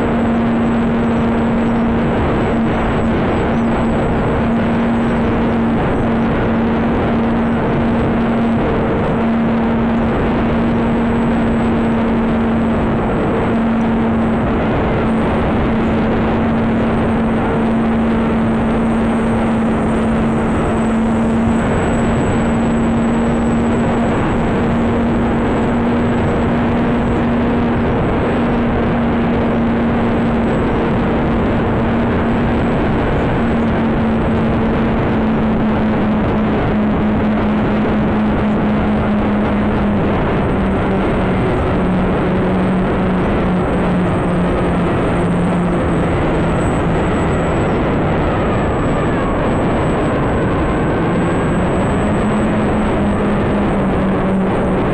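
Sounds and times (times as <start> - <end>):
electric motors humming: 0.0 - 54.9
wind noise on microphone: 0.0 - 54.9.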